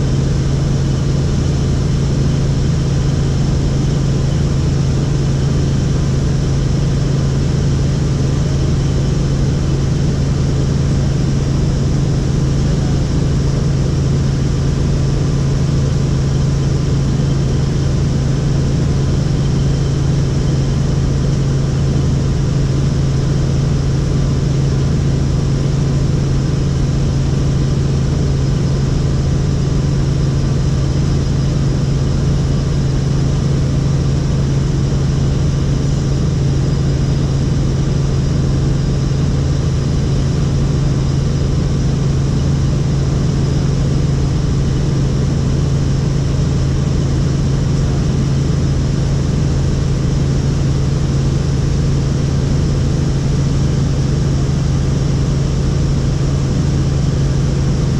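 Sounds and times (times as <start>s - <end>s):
helicopter engine and rotor drone: 0.0s - 57.9s.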